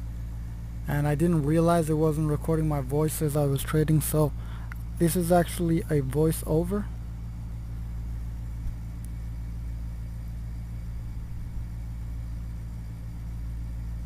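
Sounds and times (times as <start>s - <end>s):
low microphone hum with hiss: 0.0s - 14.0s.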